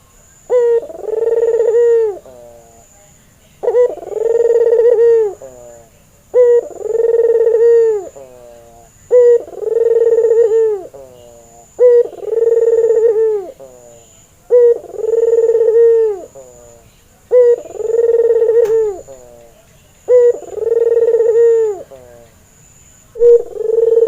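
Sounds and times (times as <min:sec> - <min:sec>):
dove cooing: 0:00.5 - 0:02.9, 0:03.6 - 0:22.3, 0:23.1 - 0:24.0.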